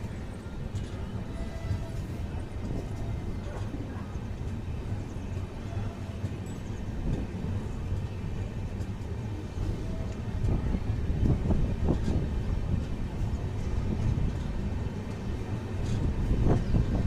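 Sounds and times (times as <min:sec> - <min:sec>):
train coach rumbling: 0:00.0 - 0:17.0.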